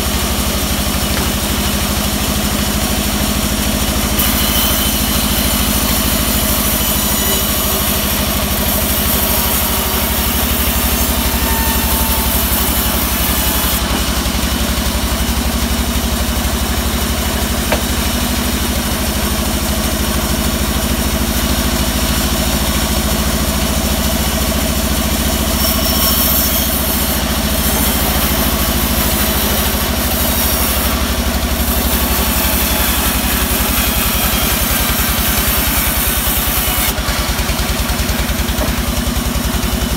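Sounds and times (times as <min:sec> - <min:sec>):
band saw ripping a log: 0:00.0 - 0:19.6, 0:21.4 - 0:39.9.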